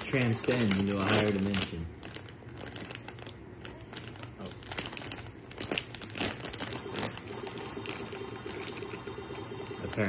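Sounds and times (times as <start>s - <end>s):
snack bag rustling and crackling: 0.0s - 10.0s.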